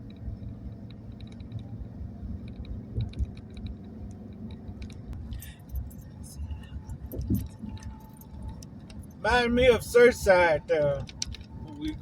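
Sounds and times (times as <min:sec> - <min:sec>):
light clicks and ticks: 0:00.0 - 0:01.8, 0:02.4 - 0:10.0, 0:10.6 - 0:12.0
vehicle road and engine rumble: 0:00.0 - 0:12.0.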